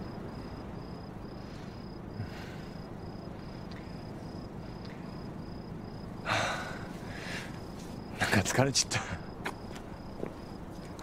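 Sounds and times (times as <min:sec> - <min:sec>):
cricket chirping: 0:00.0 - 0:11.0
low background hum: 0:00.0 - 0:11.0.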